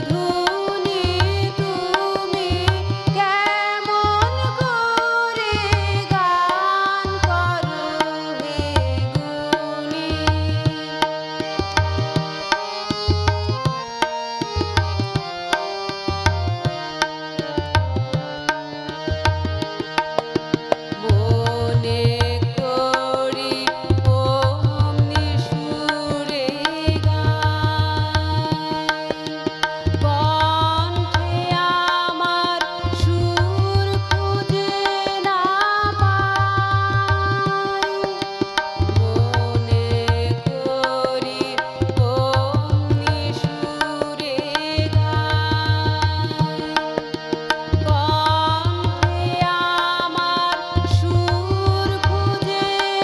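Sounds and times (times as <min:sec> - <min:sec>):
woman singing: 0:00.0 - 0:12.5, 0:20.9 - 0:53.0
harmonium: 0:00.0 - 0:53.0
tabla drumming: 0:00.0 - 0:53.0.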